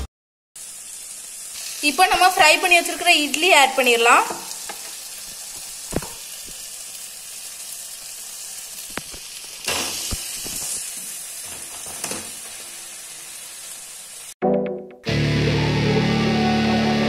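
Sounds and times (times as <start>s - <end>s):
masala sizzling in a pan: 0.6s - 14.4s.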